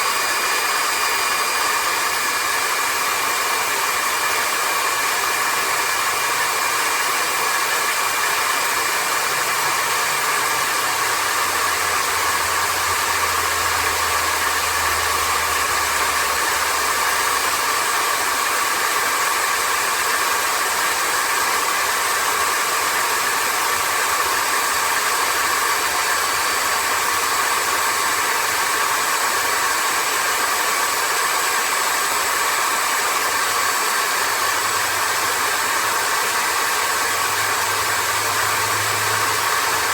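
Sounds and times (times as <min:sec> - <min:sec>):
stick vacuum cleaner running: 0:00.0 - 0:39.9.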